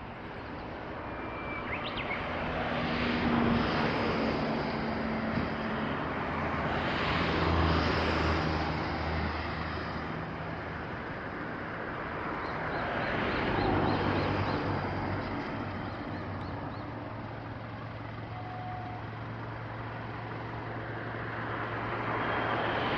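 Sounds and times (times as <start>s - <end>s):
distant traffic rumble: 0.0s - 22.9s.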